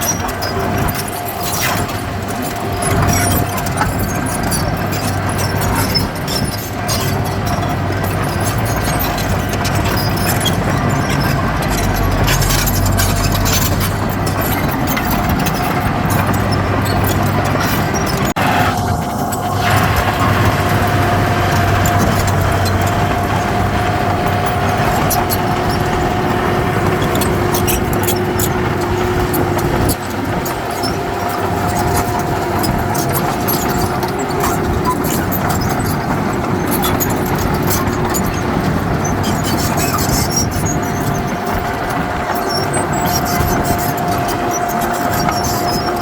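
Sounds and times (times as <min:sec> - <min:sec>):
constant whine: 0:00.0 - 0:46.0
diesel machinery running: 0:00.0 - 0:46.0.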